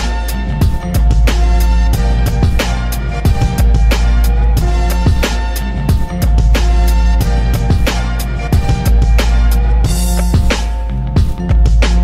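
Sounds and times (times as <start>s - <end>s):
heavy bass: 0.0s - 12.0s
music with steady drum beat: 0.0s - 12.0s.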